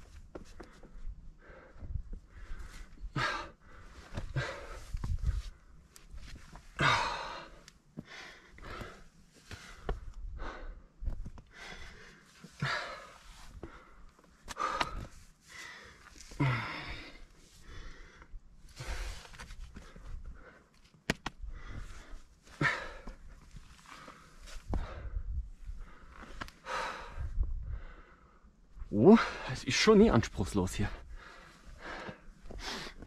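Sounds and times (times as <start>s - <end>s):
person breathing hard: 0.5s - 5.7s, 6.8s - 20.7s, 21.4s - 23.2s, 23.8s - 28.5s, 31.0s - 33.0s.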